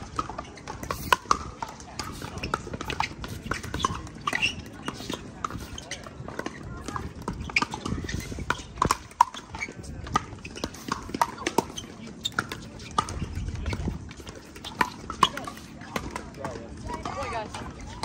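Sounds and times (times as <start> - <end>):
paddles hitting plastic ball: 0.0 - 18.0.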